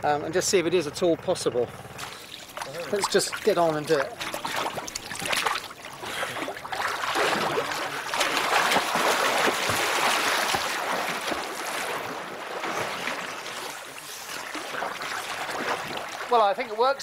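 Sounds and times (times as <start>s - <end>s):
water splashing around swimmer: 2.0s - 17.0s.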